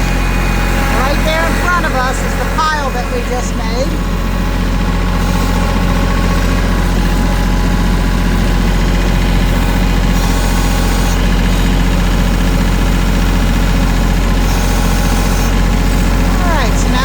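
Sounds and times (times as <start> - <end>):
tractor engine droning: 0.0 - 17.0.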